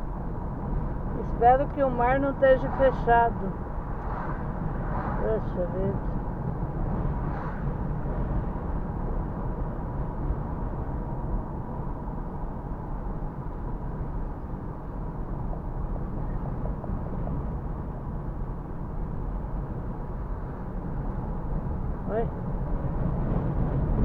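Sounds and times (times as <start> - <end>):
moving car running noise: 0.0 - 24.0
strong wind rumble: 0.0 - 24.0.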